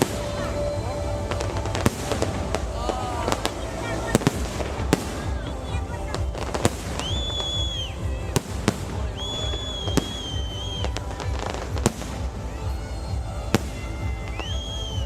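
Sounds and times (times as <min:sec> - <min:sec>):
firework whistles: 0:00.0 - 0:15.0
low rumble: 0:00.0 - 0:15.0
music: 0:00.0 - 0:15.0.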